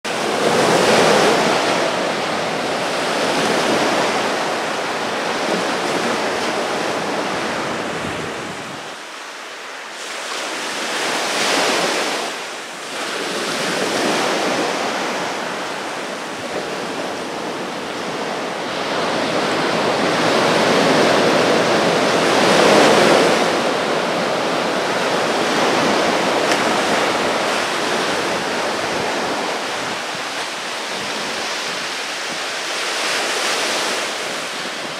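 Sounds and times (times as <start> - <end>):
surf breaking on a sandy beach: 0.1 - 34.9.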